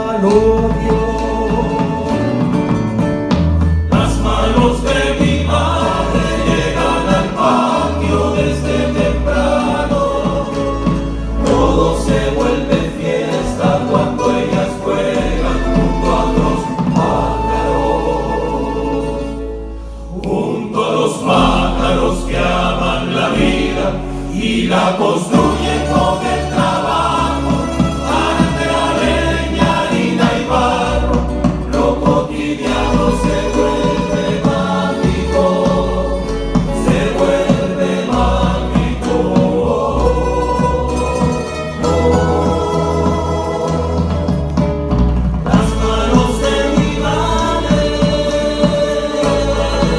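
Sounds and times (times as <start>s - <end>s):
male choir singing: 0.0s - 2.6s, 3.9s - 44.7s, 45.4s - 49.9s
deep bass line: 0.0s - 20.3s, 21.3s - 49.9s
strummed guitars and lutes: 0.0s - 49.9s.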